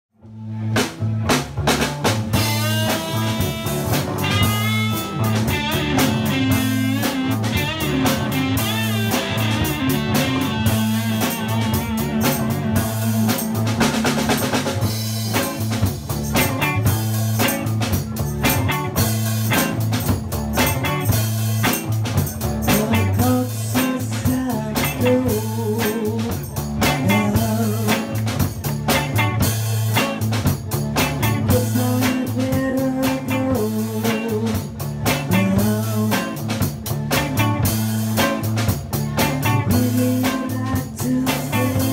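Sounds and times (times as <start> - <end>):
bass guitar: 0.1 - 41.9
drum kit with rimshots: 0.2 - 41.9
electric guitar: 0.2 - 41.9
electric keyboard: 0.4 - 41.9.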